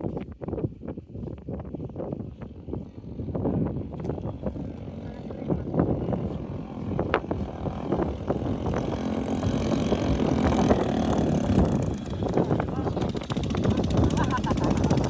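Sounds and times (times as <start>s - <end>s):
vehicle engine humming: 2.4s - 15.0s.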